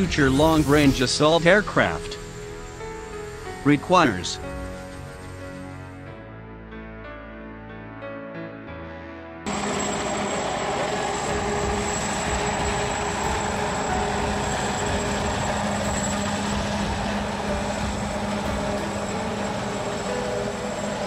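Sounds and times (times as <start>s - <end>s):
helicopter flying by: 0.0s - 6.1s, 9.5s - 21.0s.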